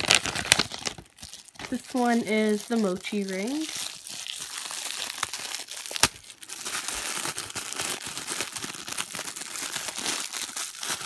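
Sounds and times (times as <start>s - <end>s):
plastic packaging crinkling and tearing: 0.0s - 11.0s.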